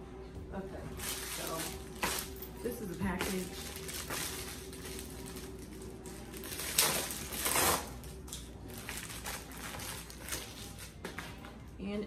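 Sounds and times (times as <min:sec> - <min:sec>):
plastic envelope ripping and rustling: 0:01.0 - 0:11.0.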